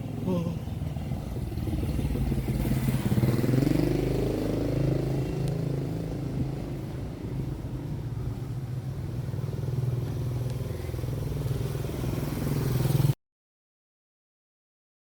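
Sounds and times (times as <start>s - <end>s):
vehicle engine humming: 0.0s - 13.2s.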